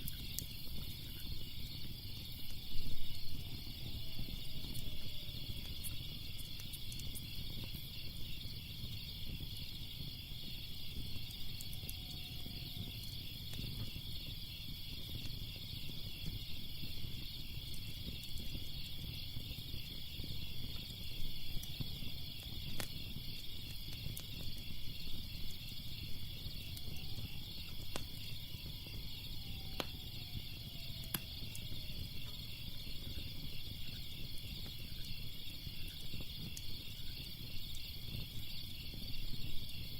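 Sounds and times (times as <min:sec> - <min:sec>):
crickets chirping: 0:00.0 - 0:39.9
fire crackling and popping: 0:00.0 - 0:39.9.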